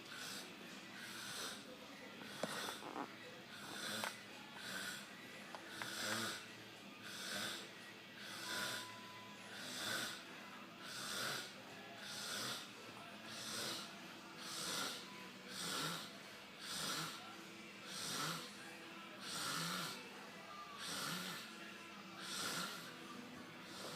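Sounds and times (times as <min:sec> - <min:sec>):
man snoring: 0:00.1 - 0:12.7, 0:13.3 - 0:17.2, 0:17.8 - 0:20.0, 0:20.8 - 0:21.5, 0:22.2 - 0:23.0, 0:23.6 - 0:23.9.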